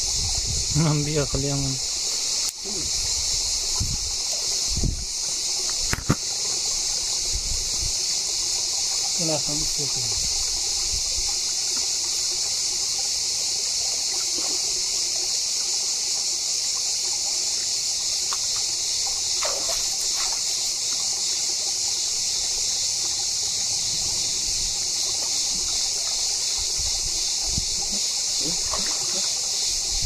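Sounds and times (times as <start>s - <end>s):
stream trickling: 0.0s - 30.0s.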